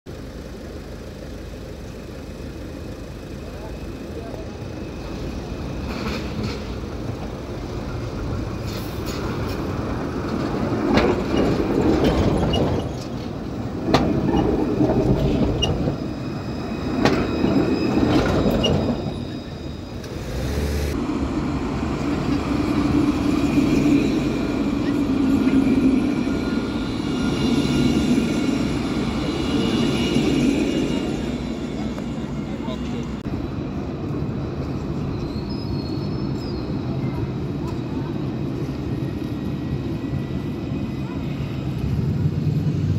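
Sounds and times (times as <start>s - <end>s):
tram rumbling past: 0.1s - 42.9s.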